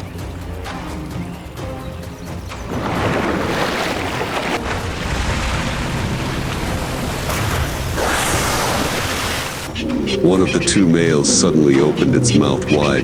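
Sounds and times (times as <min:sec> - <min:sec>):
rushing sloshing water: 0:00.0 - 0:13.0.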